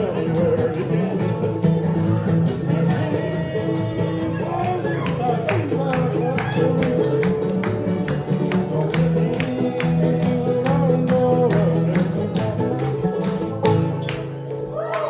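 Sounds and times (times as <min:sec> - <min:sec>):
bluegrass band playing: 0:00.0 - 0:15.0.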